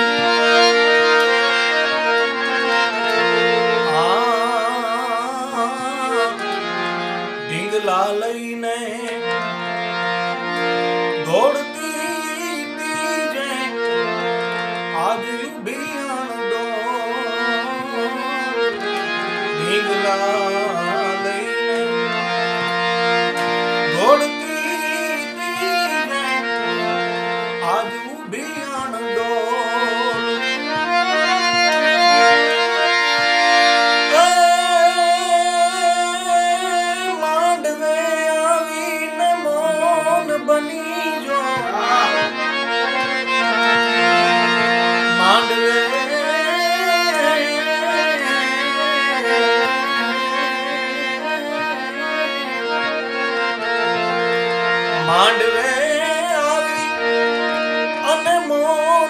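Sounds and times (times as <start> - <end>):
harmonium melody over drone: 0.0 - 59.0.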